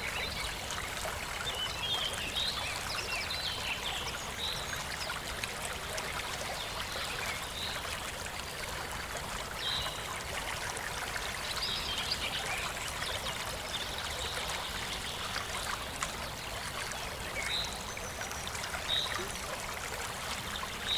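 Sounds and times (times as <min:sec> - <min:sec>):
small waterfall splashing: 0:00.0 - 0:20.9.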